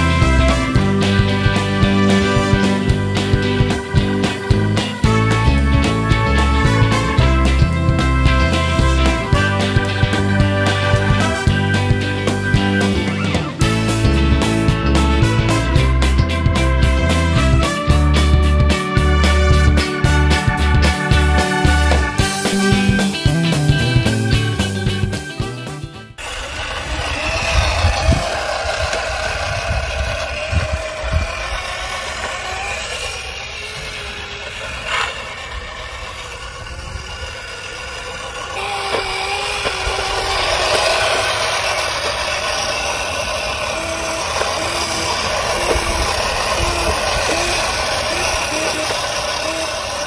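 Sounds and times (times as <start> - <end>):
electric scooter motor whining: 0.0 - 50.0.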